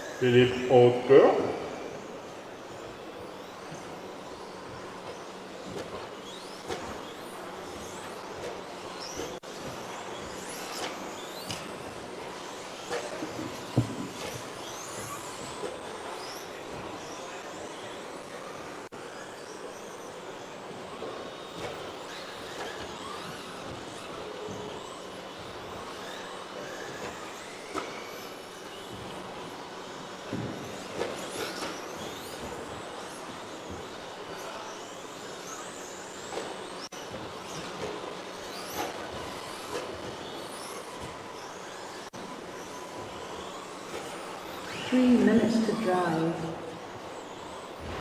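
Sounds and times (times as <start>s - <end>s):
electric motors whining: 0.0s - 48.0s.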